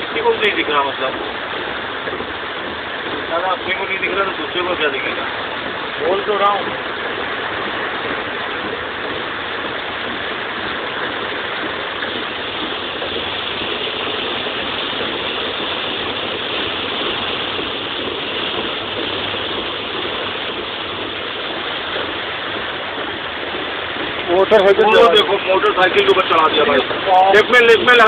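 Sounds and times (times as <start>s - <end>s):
heavy rain on vehicle roof: 0.0s - 28.0s
vehicle engine running: 0.0s - 28.0s.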